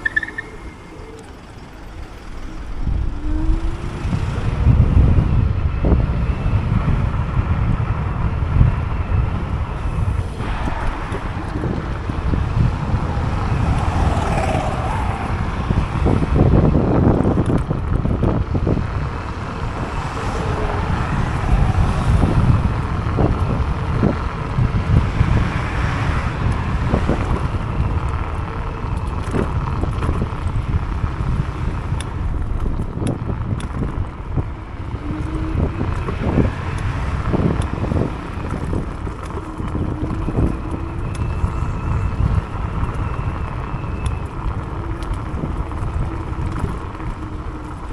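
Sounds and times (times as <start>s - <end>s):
tyre and road noise: 0.0s - 47.9s
wind on microphone: 0.0s - 47.9s.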